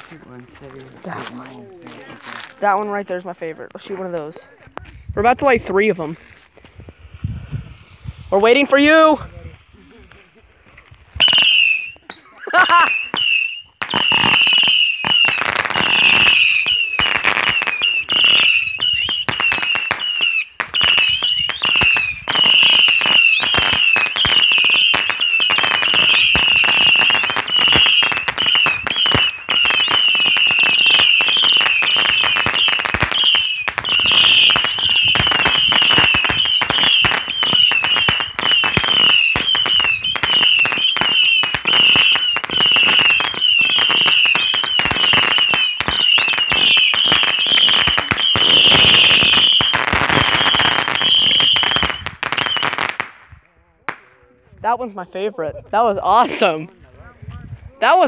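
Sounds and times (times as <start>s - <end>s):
fireworks popping and crackling: 0.0s - 54.9s.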